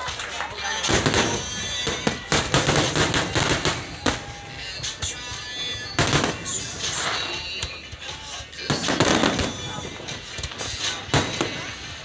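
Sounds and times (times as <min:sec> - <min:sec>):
fireworks bursting: 0:00.0 - 0:12.0
music playing: 0:00.0 - 0:12.0.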